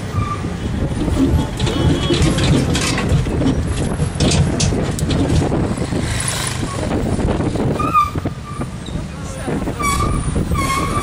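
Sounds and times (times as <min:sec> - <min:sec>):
road noise: 0:00.0 - 0:11.0
vehicle engine rumble: 0:00.0 - 0:11.0
wind buffeting microphone: 0:00.0 - 0:11.0.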